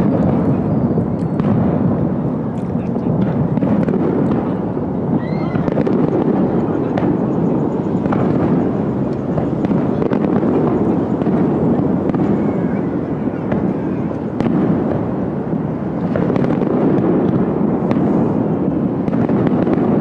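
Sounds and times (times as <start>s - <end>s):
fireworks pops and cracks: 0.0s - 20.0s
rushing rumble: 0.0s - 20.0s.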